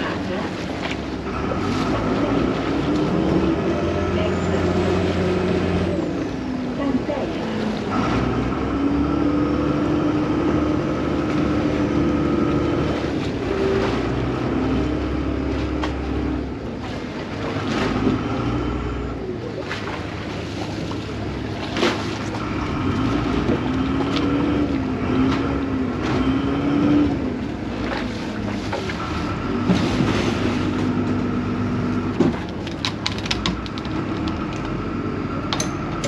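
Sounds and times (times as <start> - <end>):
boat diesel engine rumbling: 0.0 - 36.0.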